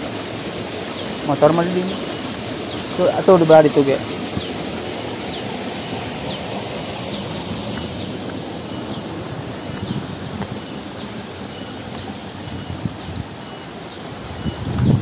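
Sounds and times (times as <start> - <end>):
broad rushing noise: 0.0 - 15.0
cicadas droning: 0.0 - 15.0.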